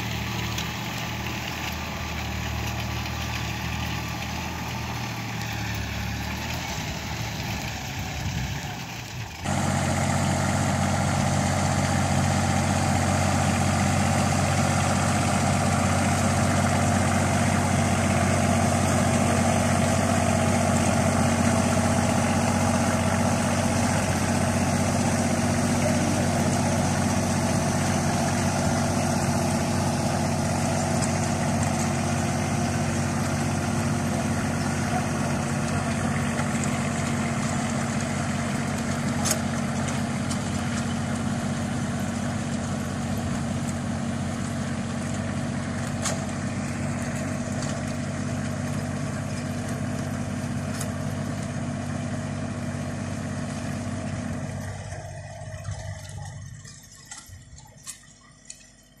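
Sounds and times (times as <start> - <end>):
rotary tiller in soil: 0.0 - 59.0
tractor engine running: 0.0 - 59.0.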